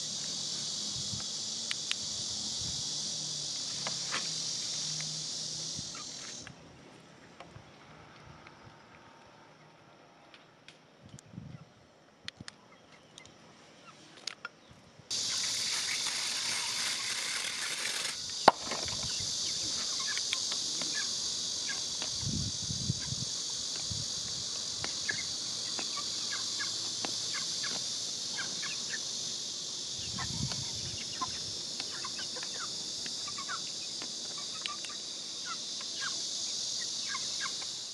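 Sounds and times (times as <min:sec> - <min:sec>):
insects buzzing chorus: 0:00.0 - 0:37.9.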